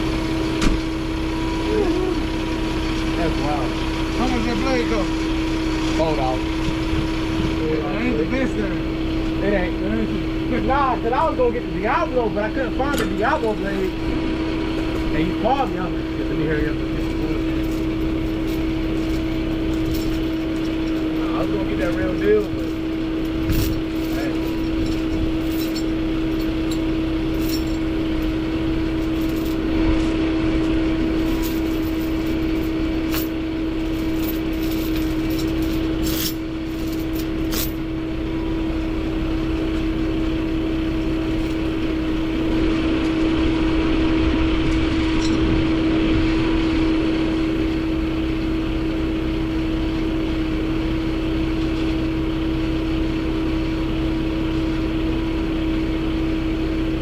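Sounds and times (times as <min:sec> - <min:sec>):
motor droning steadily: 0:00.0 - 0:57.0.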